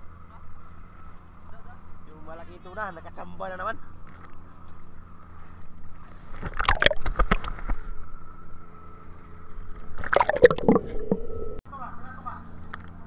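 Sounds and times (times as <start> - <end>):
boat engine low hum: 0.0 - 2.8, 3.8 - 11.6.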